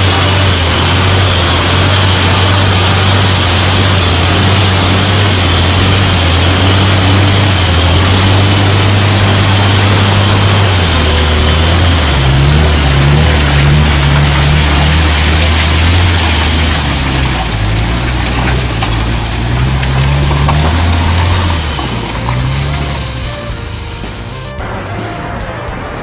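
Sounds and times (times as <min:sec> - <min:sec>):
loud even noise: 0:00.0 - 0:26.0
vehicle engine humming: 0:00.0 - 0:26.0.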